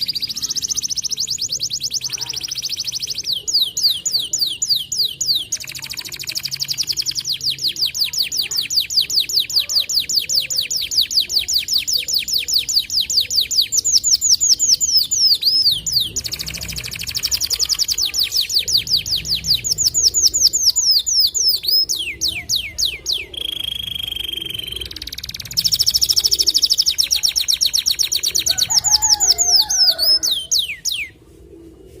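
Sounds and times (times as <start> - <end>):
canary singing trills: 0.0 - 31.2.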